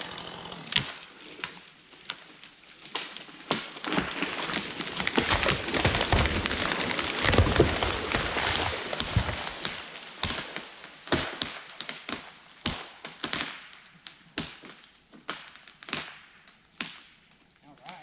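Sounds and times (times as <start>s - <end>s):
wood cracking and snapping: 0.0s - 18.0s.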